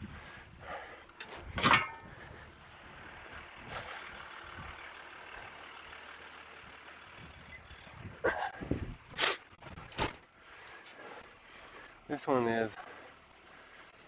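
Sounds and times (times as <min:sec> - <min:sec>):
vehicle engine noise: 0:00.0 - 0:14.0.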